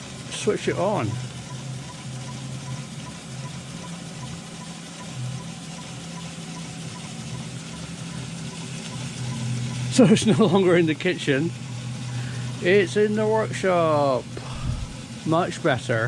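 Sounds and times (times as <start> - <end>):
model steam engine running: 0.0 - 16.0.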